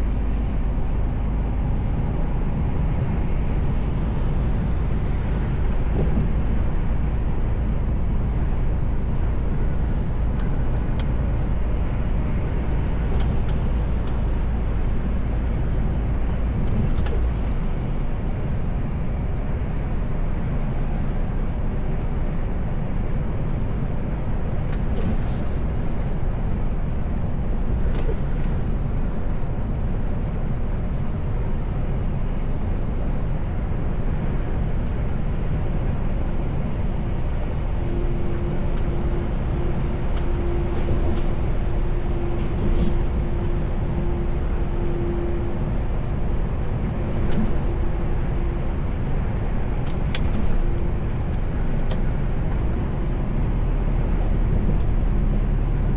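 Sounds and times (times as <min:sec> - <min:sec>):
diesel engine drone: 0:00.0 - 0:55.9
road noise: 0:00.0 - 0:55.9.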